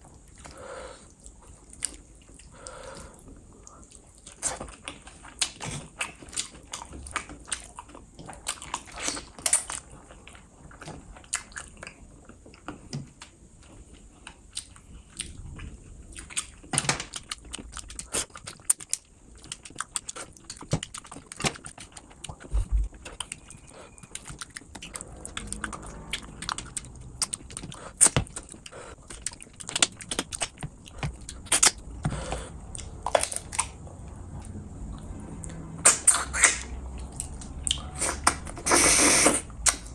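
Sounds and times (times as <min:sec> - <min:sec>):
wet chewing and mouth smacking: 0:00.0 - 0:39.9.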